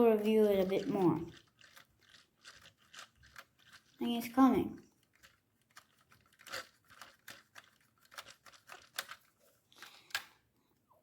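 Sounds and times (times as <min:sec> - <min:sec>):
small things clicking and rustling: 0:00.0 - 0:10.4.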